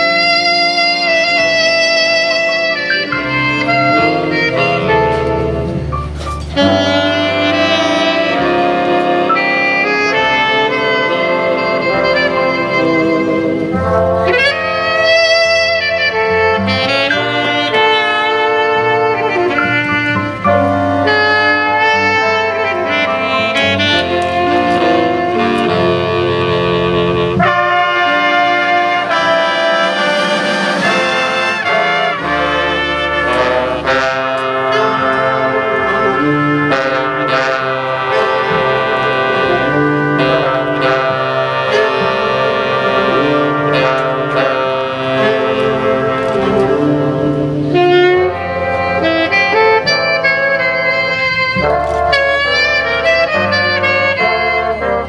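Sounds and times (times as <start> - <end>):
jazz big band playing: 0.0 - 55.0.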